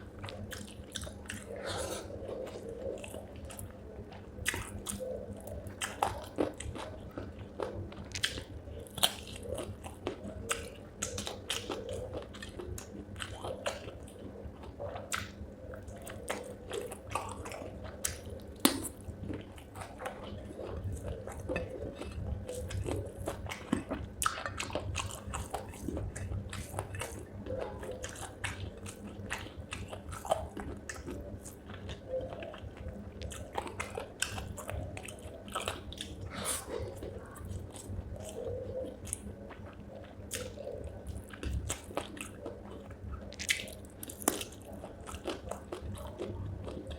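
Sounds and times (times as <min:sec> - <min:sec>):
person chewing and crunching: 0:00.0 - 0:46.9.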